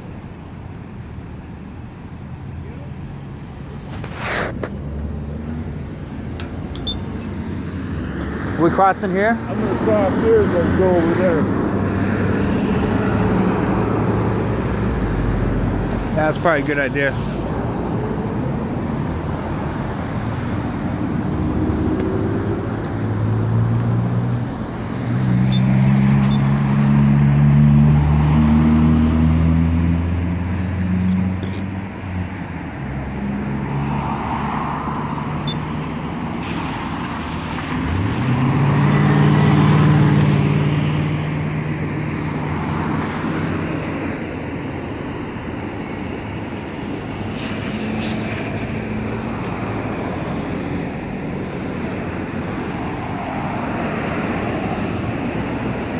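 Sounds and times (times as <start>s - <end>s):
vehicles passing on road: 0.0s - 55.9s
loud engines passing: 2.6s - 55.9s.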